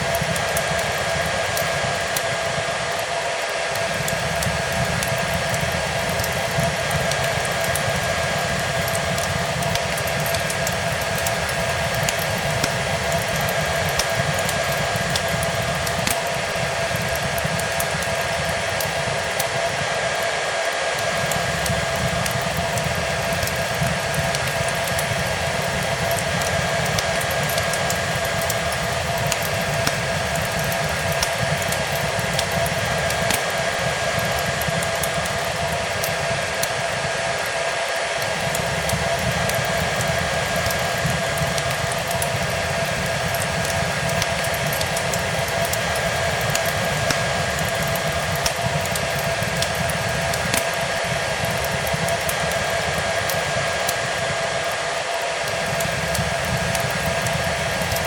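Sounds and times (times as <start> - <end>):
fireplace crackling: 0.0 - 58.0
hair dryer running: 0.0 - 58.0.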